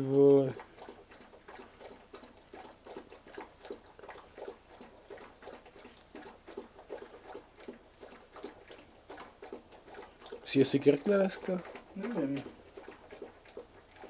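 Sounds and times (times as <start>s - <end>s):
dog lapping food from bowl: 0.0s - 14.0s.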